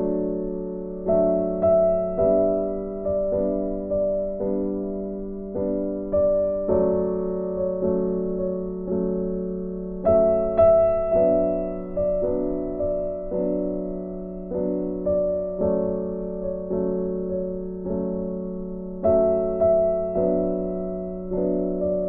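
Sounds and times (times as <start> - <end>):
slow gentle piano tune: 0.0 - 22.0.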